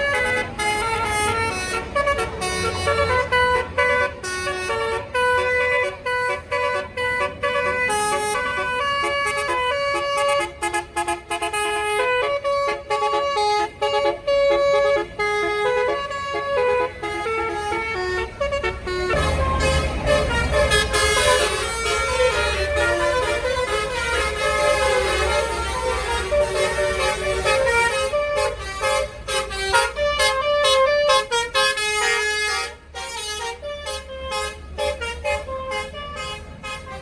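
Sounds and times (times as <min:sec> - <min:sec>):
multi-tone bus horn playing a tune: 0:00.0 - 0:37.0.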